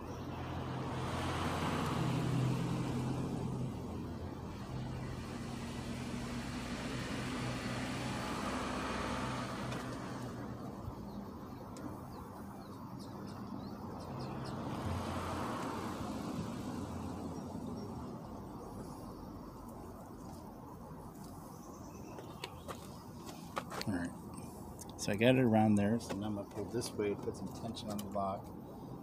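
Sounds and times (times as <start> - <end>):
motor vehicle engine hum: 0.0 - 25.2.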